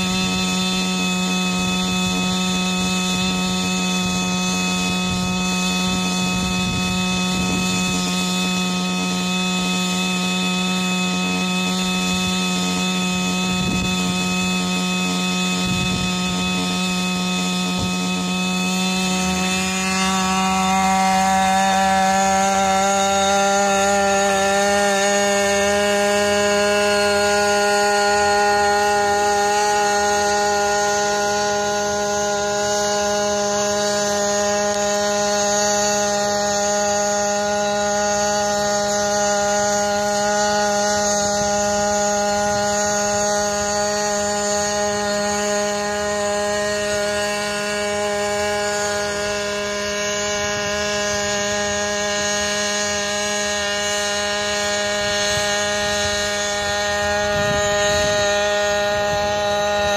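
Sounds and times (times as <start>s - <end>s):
drone engine and propellers humming: 0.0s - 59.9s.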